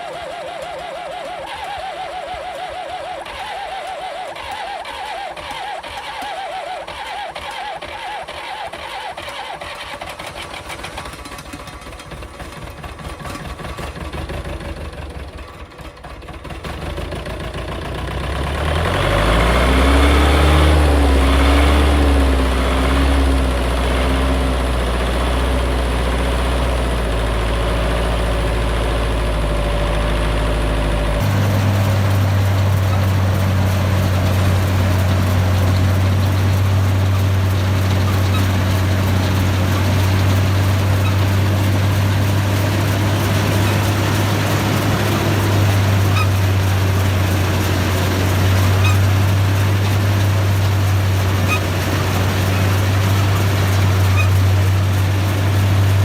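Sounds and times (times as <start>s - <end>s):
another engine running: 0.0s - 56.0s
diesel engine starting and idling: 0.0s - 56.0s.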